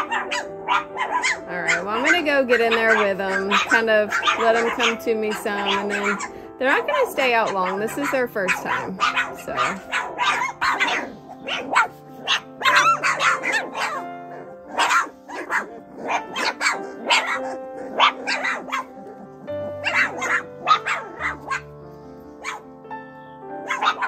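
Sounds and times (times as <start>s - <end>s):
background music: 0.0s - 24.0s
puppies barking and yipping: 0.0s - 24.0s.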